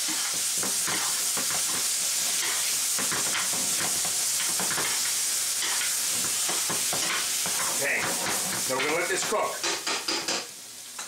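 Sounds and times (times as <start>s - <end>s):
metal tongs scraping a pan: 0.0s - 10.3s
sauce sizzling in a frying pan: 0.0s - 11.0s.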